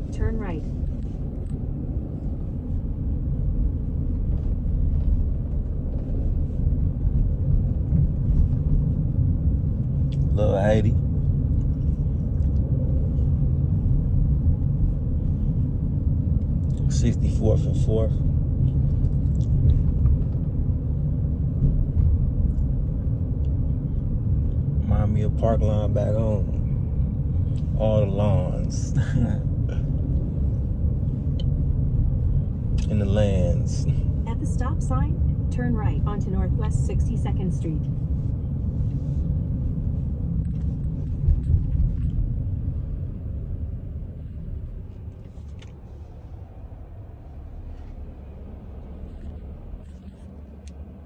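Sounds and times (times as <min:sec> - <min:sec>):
car interior road rumble: 0:00.0 - 0:51.0.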